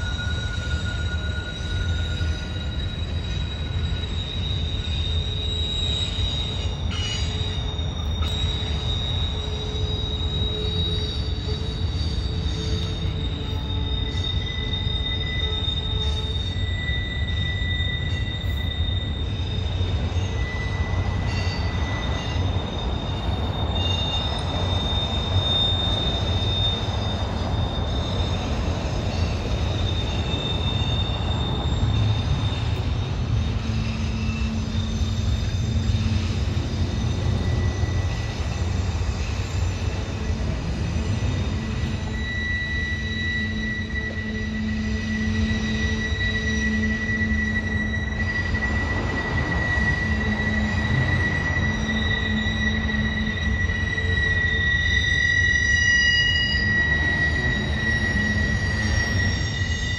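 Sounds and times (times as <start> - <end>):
freight train rumbling past: 0.0 - 59.9
high wheel squealing: 0.0 - 59.9.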